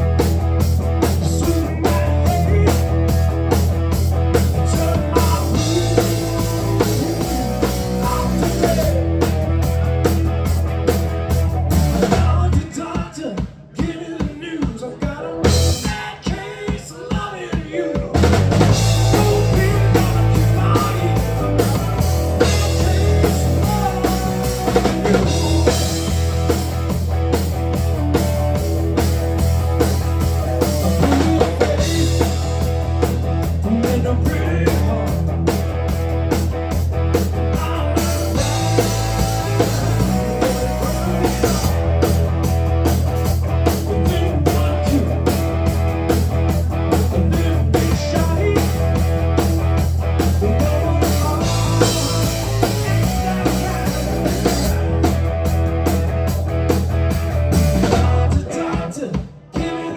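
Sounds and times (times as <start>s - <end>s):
low bass line: 0.0s - 12.5s, 18.2s - 58.4s
electric guitars: 0.0s - 13.1s, 18.2s - 59.9s
drum kit beat: 0.0s - 59.9s.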